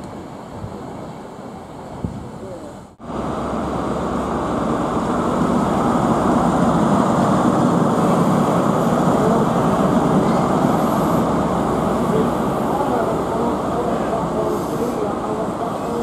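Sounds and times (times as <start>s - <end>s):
diesel train passing: 2.7s - 16.0s.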